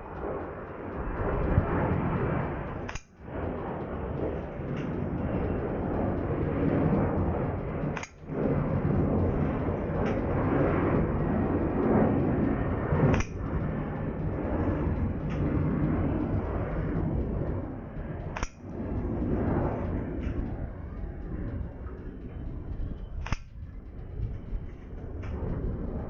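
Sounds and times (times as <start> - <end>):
background rumble: 0.0 - 26.0.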